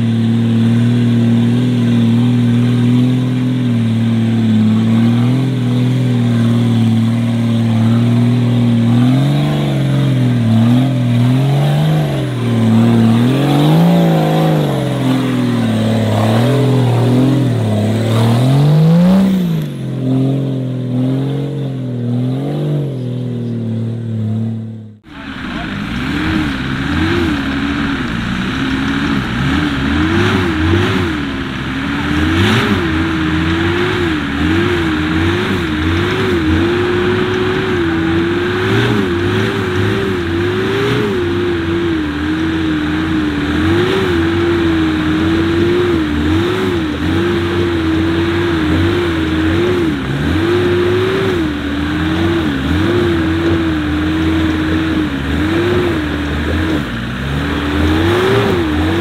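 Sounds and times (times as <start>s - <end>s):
off-road engine revving: 0.0s - 59.0s.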